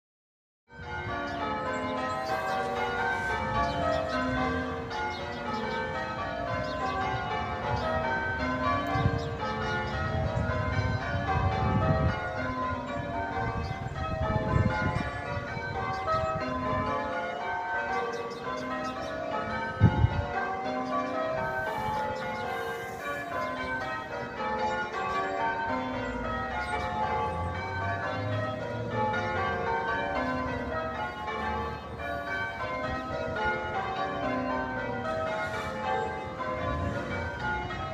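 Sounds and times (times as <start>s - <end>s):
church bells ringing changes: 0.7s - 37.9s.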